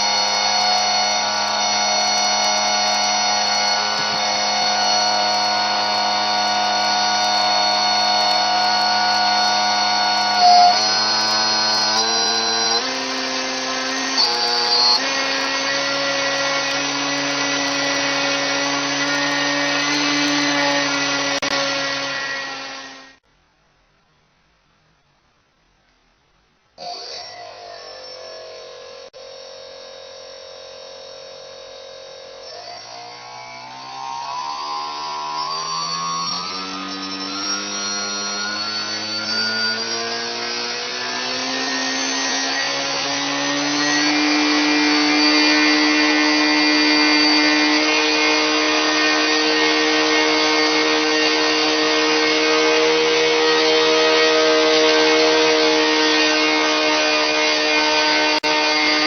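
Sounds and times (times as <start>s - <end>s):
electric motor whine: 0.0s - 23.2s, 26.8s - 59.0s.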